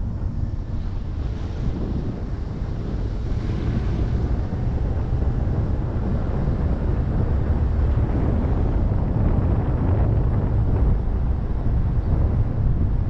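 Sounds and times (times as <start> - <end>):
car engine and road noise: 0.0 - 13.0
wind buffeting microphone: 0.0 - 13.0.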